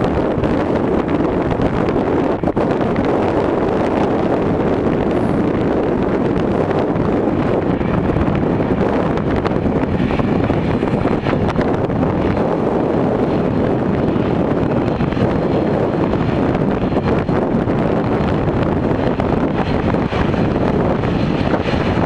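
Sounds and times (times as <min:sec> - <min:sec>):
blizzard wind buffeting microphone: 0:00.0 - 0:22.0.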